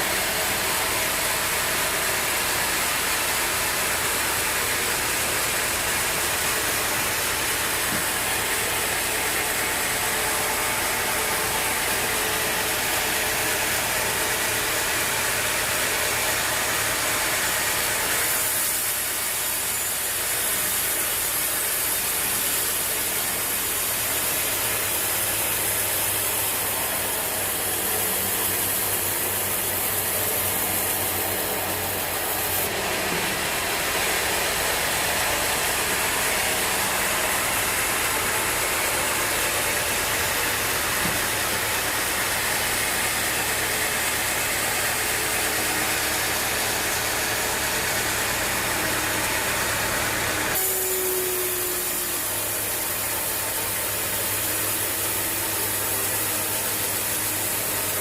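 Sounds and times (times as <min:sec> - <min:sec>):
sawmill machinery drone: 0:00.0 - 0:58.0.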